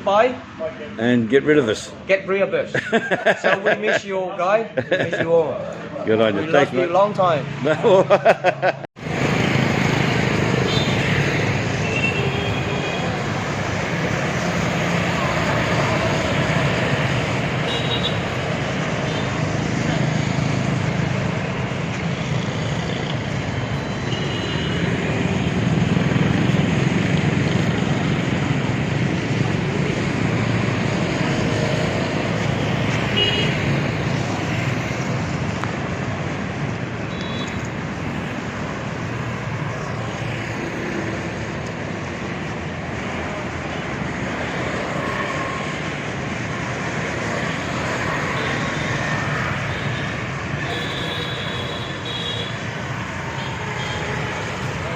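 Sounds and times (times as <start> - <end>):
road vehicle noise: 0.0 - 54.9.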